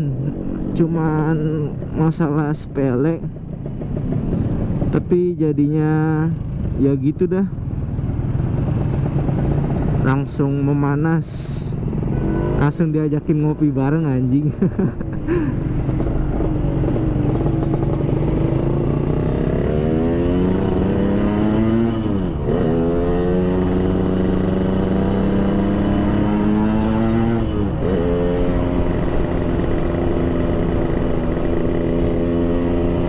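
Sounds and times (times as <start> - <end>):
motorcycle engine shifting gears: 0.0 - 5.1, 7.5 - 10.4, 14.5 - 33.0.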